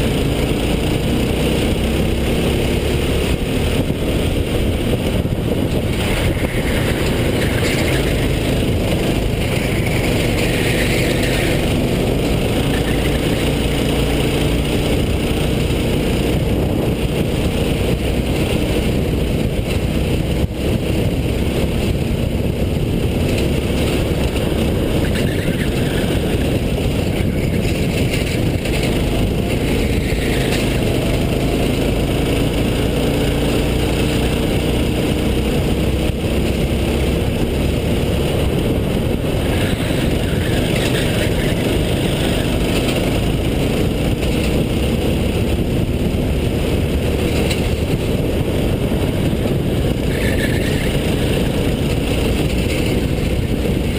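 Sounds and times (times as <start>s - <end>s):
go-kart engine racing: 0.0s - 53.9s.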